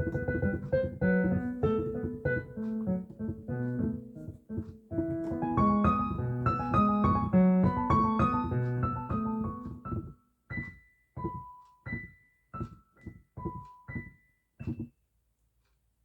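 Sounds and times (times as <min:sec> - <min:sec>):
piano playing children's tune: 0:00.0 - 0:14.9.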